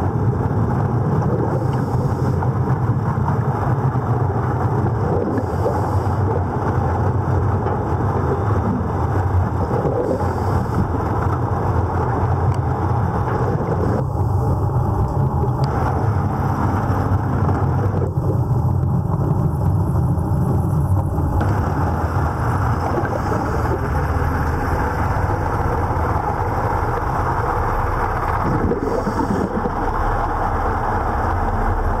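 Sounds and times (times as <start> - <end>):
faint steady hum: 0.0 - 32.0
underwater low rumble: 0.0 - 32.0.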